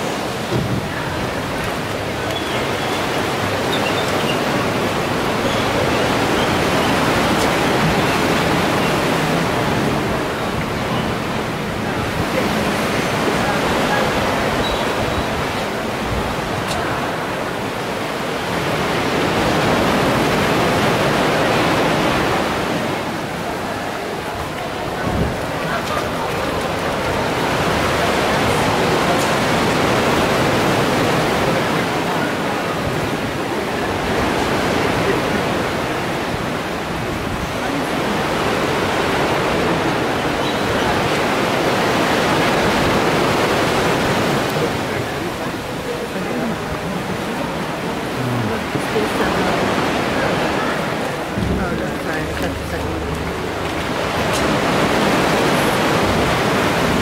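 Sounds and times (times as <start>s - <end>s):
sea surf rushing: 0.0s - 57.0s.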